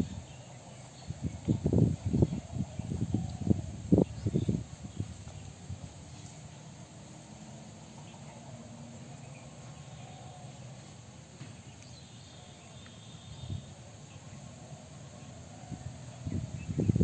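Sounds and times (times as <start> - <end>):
background hiss: 0.0 - 17.0
insects calling: 0.0 - 17.0.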